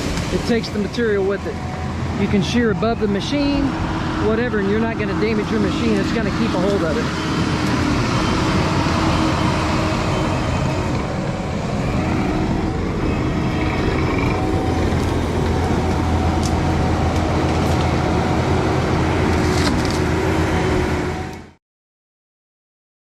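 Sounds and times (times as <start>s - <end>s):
diesel engine running under load: 0.0s - 21.6s.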